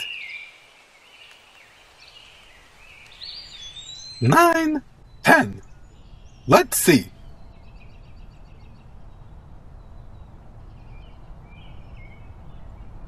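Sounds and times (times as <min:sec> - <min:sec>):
birds chirping in trills: 0:00.0 - 0:13.0
low steady background noise: 0:00.0 - 0:13.0.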